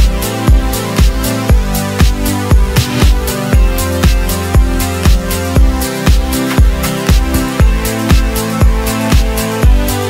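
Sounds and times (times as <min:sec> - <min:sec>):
electronic dance beat: 0:00.0 - 0:10.0
held synth chords: 0:00.0 - 0:10.0
kick drum: 0:00.0 - 0:10.0.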